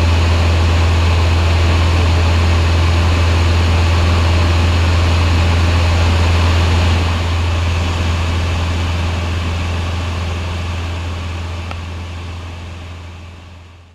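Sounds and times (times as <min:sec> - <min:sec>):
aircraft engine drone: 0:00.0 - 0:13.9.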